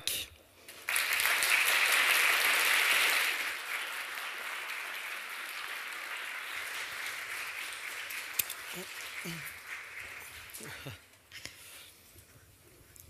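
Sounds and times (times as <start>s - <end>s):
audience applauding: 0.7s - 11.2s.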